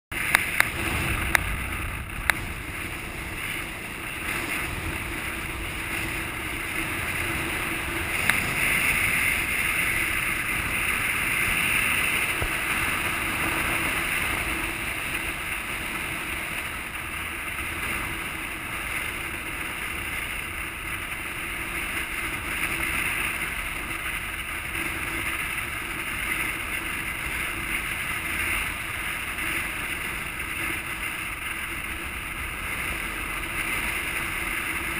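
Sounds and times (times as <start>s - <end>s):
road and engine drone: 0.0s - 34.9s
wind rushing over camera: 0.1s - 34.9s.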